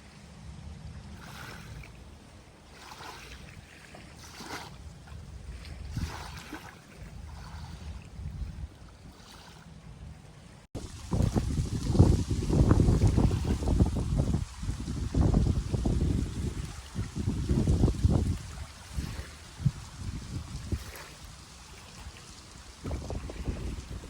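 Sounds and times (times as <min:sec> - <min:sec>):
small waves splashing on shore: 0:00.0 - 0:24.0
wind rumble on microphone: 0:00.0 - 0:24.0.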